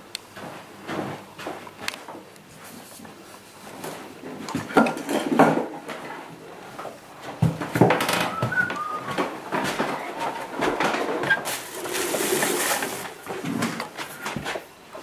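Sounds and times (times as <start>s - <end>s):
scraping and rustling: 2.5s - 14.7s.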